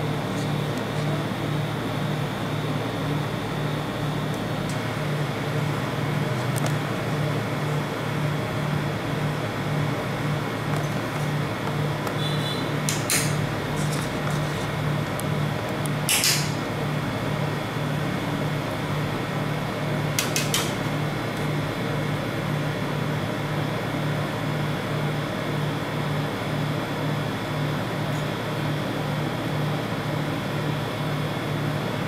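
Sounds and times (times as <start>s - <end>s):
cold plate machine humming: 0.0s - 32.0s.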